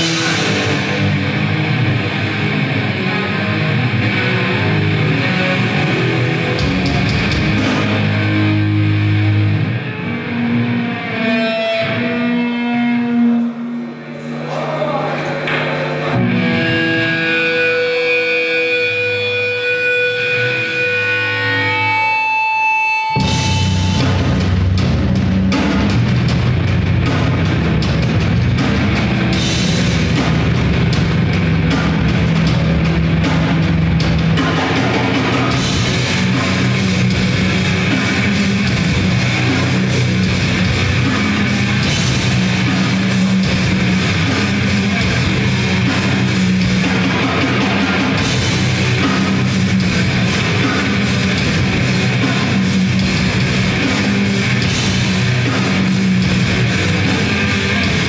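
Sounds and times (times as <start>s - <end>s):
loud grindcore band playing: 0.0s - 58.0s.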